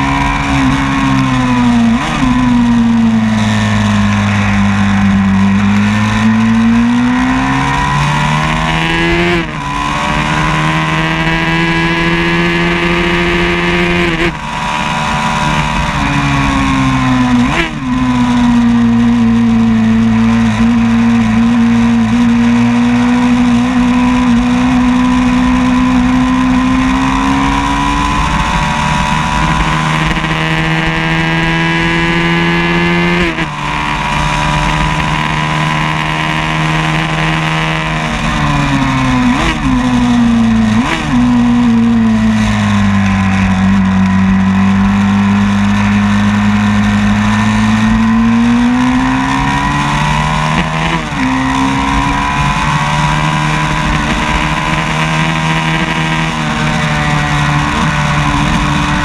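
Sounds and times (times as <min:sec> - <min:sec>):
racing motorcycle engine: 0:00.0 - 0:59.0.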